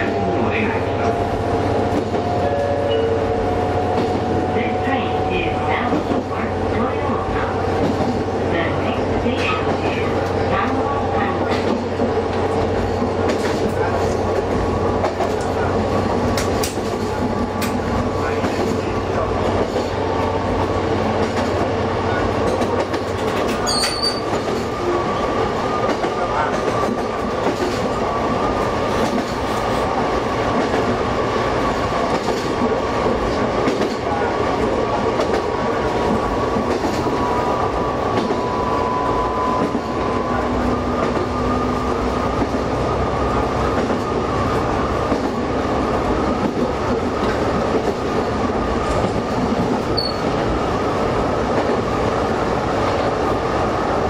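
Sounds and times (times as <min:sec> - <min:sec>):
railcar engine and wheels rumbling: 0:00.0 - 0:54.0.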